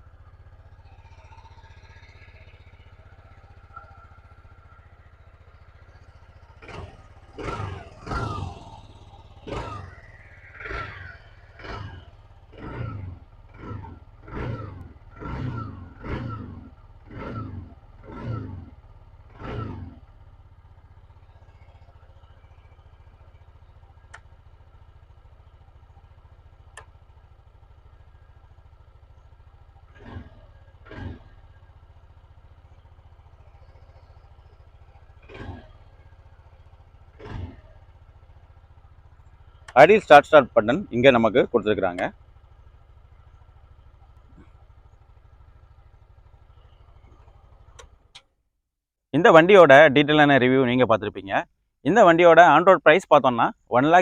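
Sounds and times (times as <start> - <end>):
scooter engine revving: 0.0 - 48.3
scooter engine idling: 0.0 - 48.5, 49.1 - 54.0.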